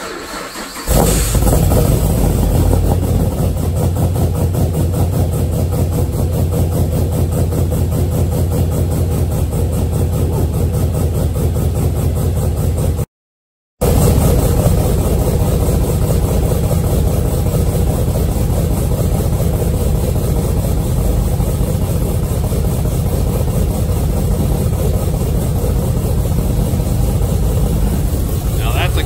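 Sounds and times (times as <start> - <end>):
car engine idling: 0.0 - 13.0, 13.8 - 29.0.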